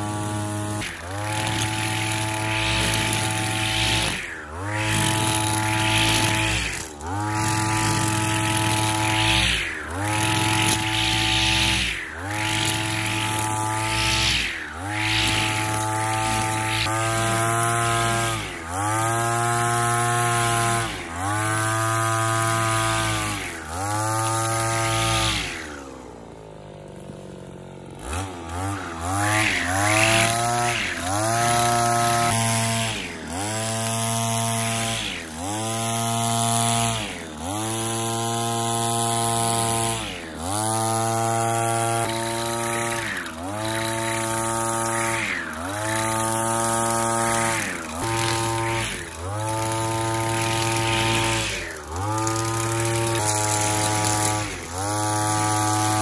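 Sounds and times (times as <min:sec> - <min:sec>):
brush cutter engine revving: 0:00.0 - 0:56.0.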